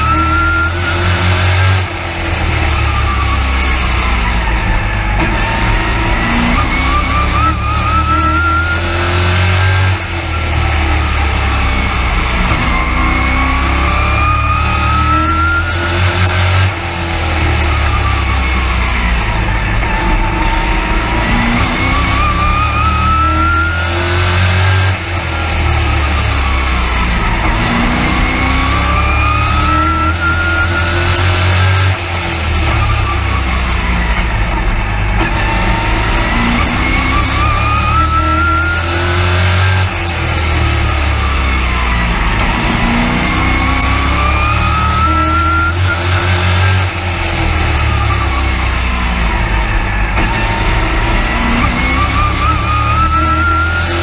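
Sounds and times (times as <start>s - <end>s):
truck engine revving from cab: 0.0s - 54.0s.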